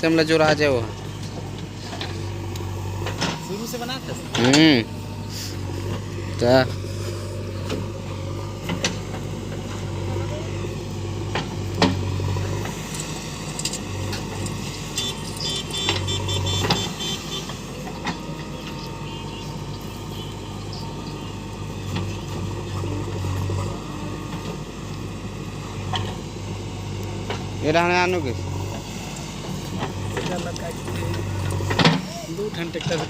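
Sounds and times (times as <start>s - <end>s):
diesel machinery engine running: 0.0s - 33.0s.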